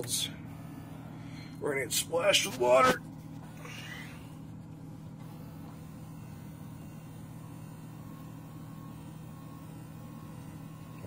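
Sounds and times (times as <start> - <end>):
freezer humming: 0.0 - 11.0
ice maker running: 0.0 - 11.0.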